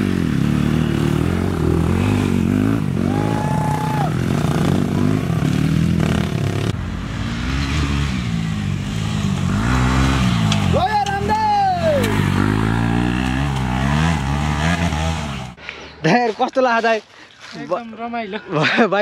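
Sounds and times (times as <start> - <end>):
dirt bike engines revving: 0.0 - 16.9.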